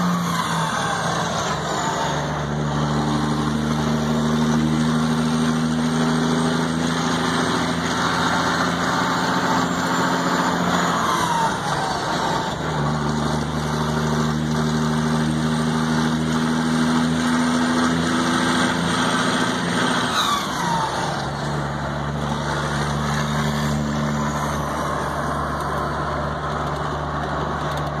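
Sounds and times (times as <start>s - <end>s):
diesel truck engine running hard: 0.0s - 28.0s.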